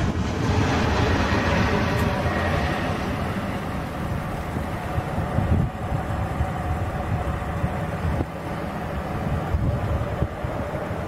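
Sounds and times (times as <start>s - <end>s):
faint engine whine: 0.0s - 11.0s
jet engines passing overhead: 0.0s - 11.0s.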